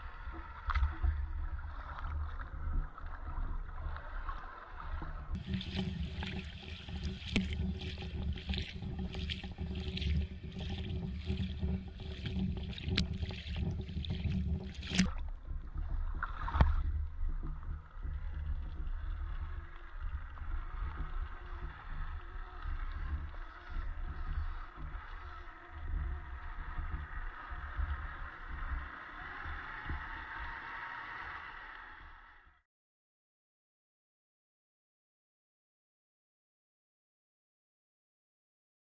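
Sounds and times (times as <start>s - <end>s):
water splashing and sloshing: 0.0s - 32.2s.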